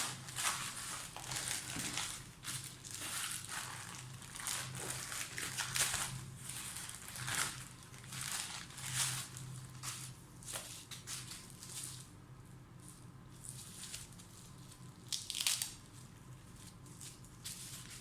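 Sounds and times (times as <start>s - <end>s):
packaging rustling and crinkling: 0.0s - 12.1s, 13.3s - 18.0s.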